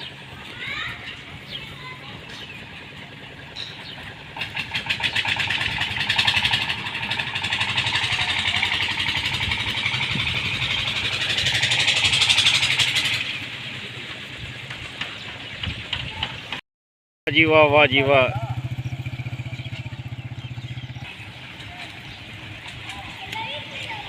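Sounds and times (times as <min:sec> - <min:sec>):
motorcycle engine running: 0:00.0 - 0:16.5, 0:17.3 - 0:24.0.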